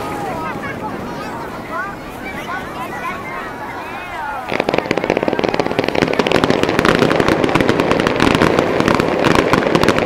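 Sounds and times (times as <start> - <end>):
fireworks bursts and crackling: 0.0 - 10.0.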